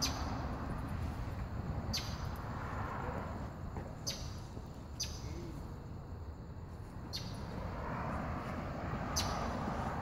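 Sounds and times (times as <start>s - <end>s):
passing traffic hiss: 0.0s - 10.0s
wind rumble: 0.0s - 10.0s.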